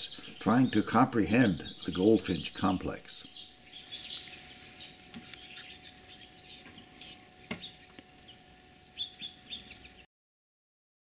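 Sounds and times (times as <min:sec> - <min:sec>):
finches chirping: 0:00.0 - 0:10.1.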